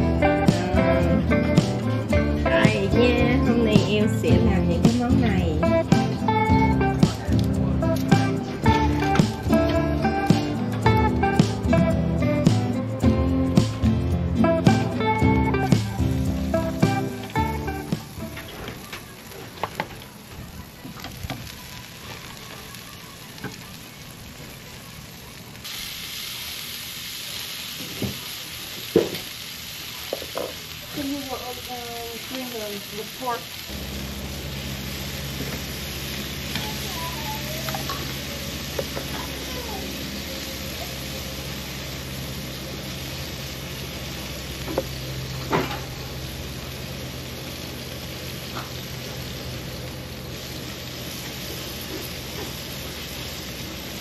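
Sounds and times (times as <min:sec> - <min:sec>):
meat sizzling on a grill: 0:00.0 - 0:54.0.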